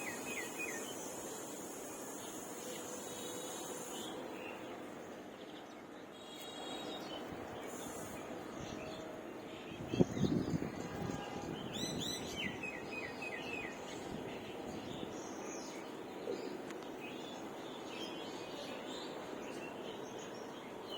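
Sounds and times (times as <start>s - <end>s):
steady background hiss: 0.0s - 9.8s, 11.8s - 20.9s
songbirds chirping: 0.0s - 20.9s.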